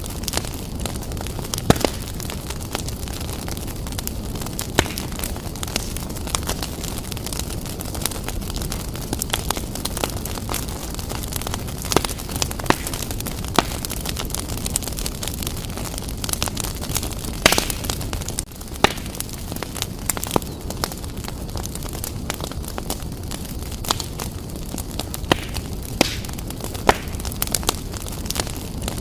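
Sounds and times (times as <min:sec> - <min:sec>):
fire crackling and popping: 0:00.0 - 0:29.0
fire flames rumbling: 0:00.0 - 0:29.0.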